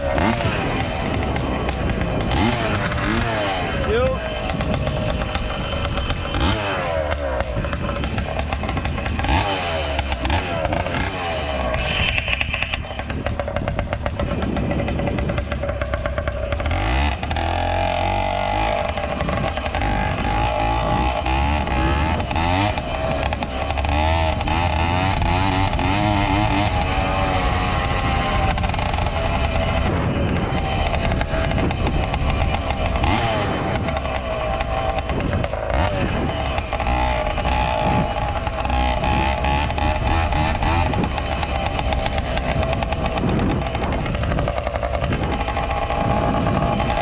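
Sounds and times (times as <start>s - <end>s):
two-stroke engine revving: 0.0s - 47.0s.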